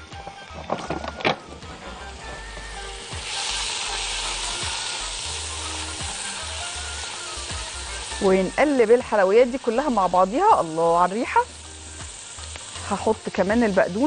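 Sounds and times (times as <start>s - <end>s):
onions and mushrooms sizzling: 0.0s - 14.0s.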